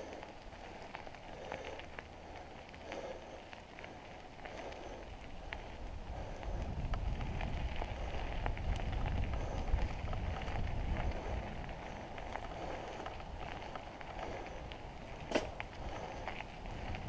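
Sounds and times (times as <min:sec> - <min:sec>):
bike tyres rolling on dirt trail: 0:00.0 - 0:17.0
grit and twigs ticking under wheels: 0:00.0 - 0:17.0.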